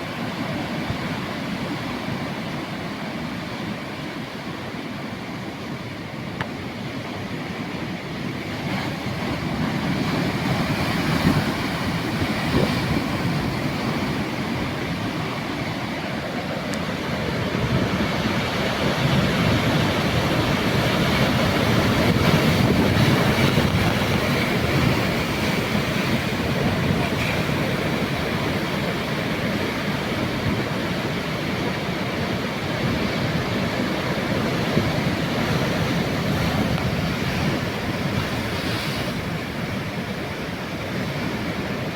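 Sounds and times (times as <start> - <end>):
sea waves washing ashore: 0.0 - 41.9.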